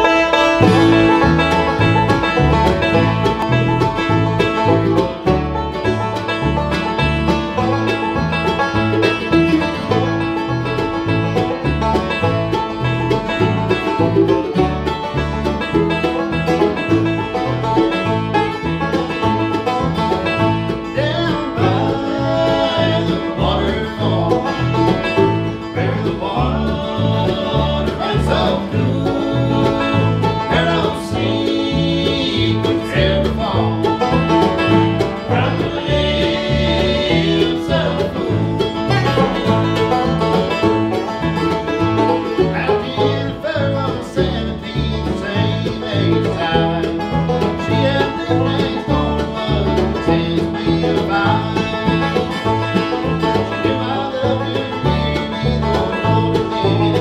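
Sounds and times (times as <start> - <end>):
acoustic guitar: 0.0 - 57.0
banjo rolls: 0.0 - 57.0
mandolin: 0.0 - 57.0
upright bass plucking: 0.0 - 57.0.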